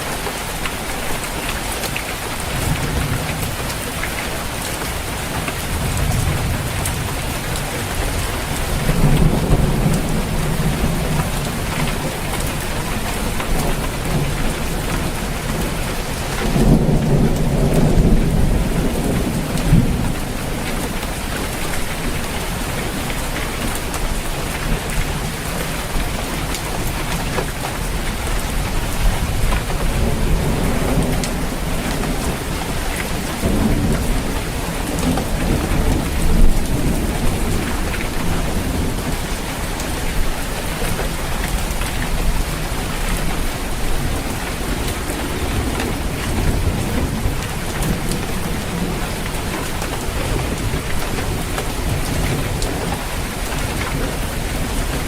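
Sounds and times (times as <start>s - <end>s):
rain on a roof: 0.0s - 55.0s
thunder rumbling: 2.2s - 55.0s.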